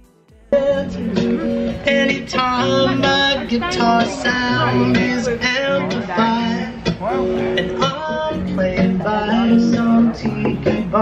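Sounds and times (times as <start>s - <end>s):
plucked guitar music: 0.0s - 11.0s
sustained bass notes: 0.0s - 11.0s.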